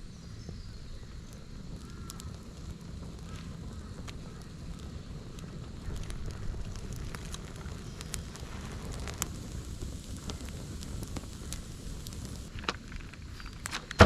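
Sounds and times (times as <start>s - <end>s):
steady low rumble: 0.0s - 13.6s
campfire crackling: 0.0s - 14.0s
sharp pops: 1.3s - 14.0s.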